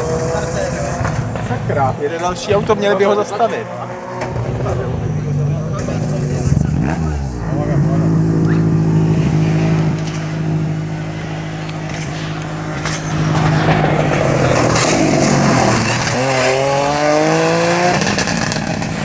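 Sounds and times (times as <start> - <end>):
rally car engine at full throttle: 0.0 - 19.0.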